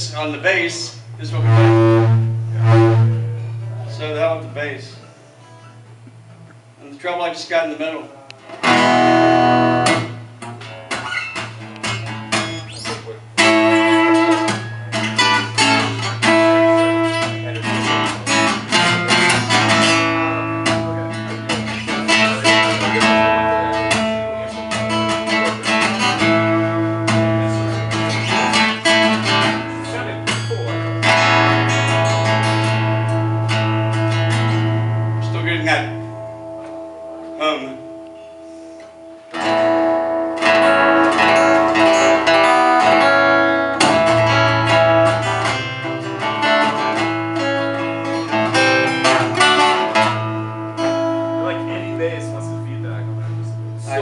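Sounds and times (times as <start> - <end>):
amplified guitar: 0.0 - 54.0
steady low hum: 0.0 - 54.0.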